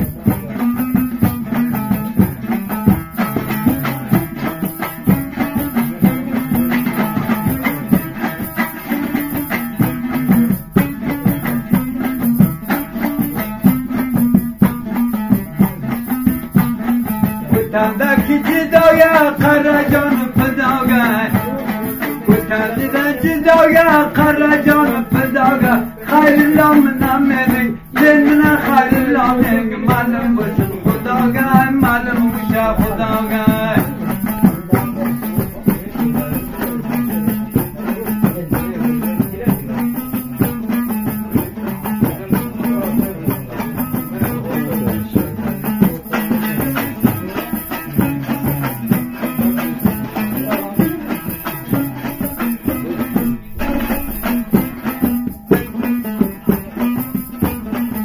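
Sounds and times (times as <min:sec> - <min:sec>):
man singing folk song: 0:00.0 - 0:58.0
strummed lute: 0:00.0 - 0:58.0.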